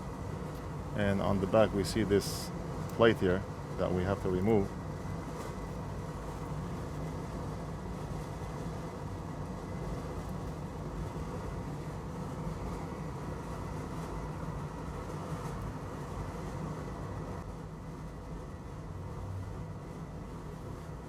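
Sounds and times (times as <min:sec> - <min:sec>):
extractor fan humming: 0:00.0 - 0:21.0.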